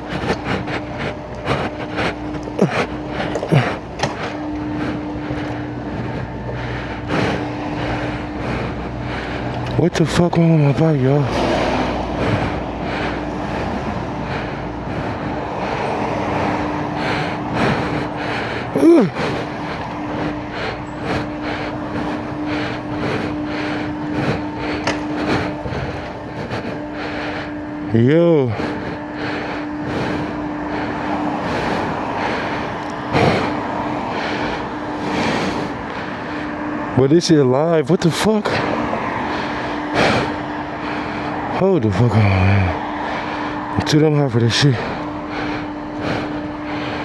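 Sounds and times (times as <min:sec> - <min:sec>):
hard rhythmic breathing: 0:00.0 - 0:47.0
road traffic noise: 0:00.0 - 0:47.0.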